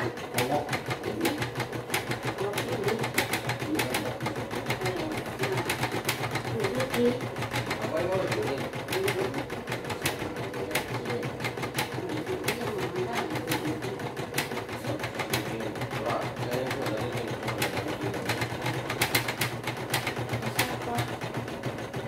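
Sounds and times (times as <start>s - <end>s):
sharp machine clicks: 0.0s - 21.8s
embroidery machine stitching: 0.0s - 22.0s.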